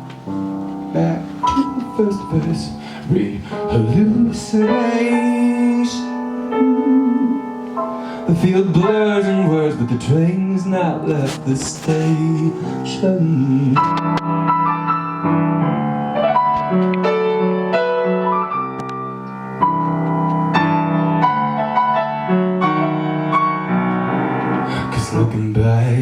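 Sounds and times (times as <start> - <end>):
keyboard melody over chords: 0.0 - 25.2.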